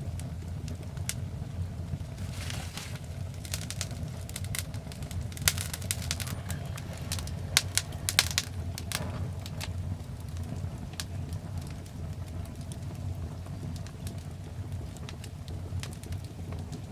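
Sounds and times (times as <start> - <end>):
low fire rumble: 0.0 - 16.9
wood fire crackling and popping: 0.0 - 16.9.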